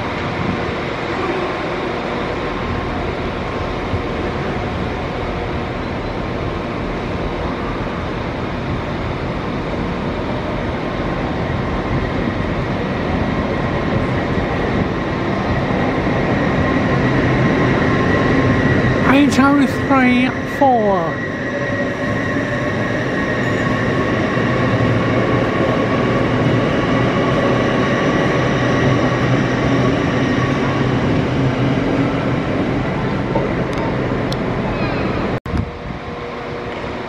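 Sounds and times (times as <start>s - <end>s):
train rumbling and hissing: 0.0s - 37.0s.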